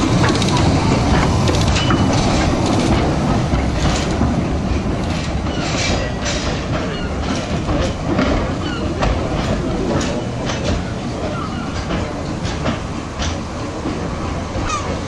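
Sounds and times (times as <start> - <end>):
clicks and knocks over track: 0.0 - 15.0
steam locomotive rumbling: 0.0 - 15.0.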